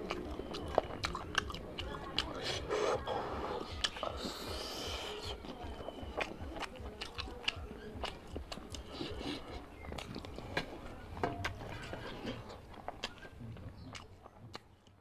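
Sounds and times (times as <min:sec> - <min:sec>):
wet mouth clicks and lip smacks: 0:00.0 - 0:02.7, 0:03.6 - 0:10.7, 0:11.4 - 0:15.0
chewing: 0:00.0 - 0:15.0.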